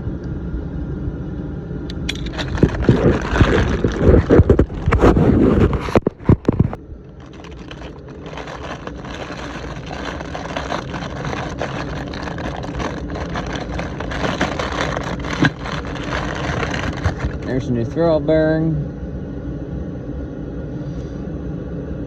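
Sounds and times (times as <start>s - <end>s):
heater rushing hum: 0.0s - 22.0s.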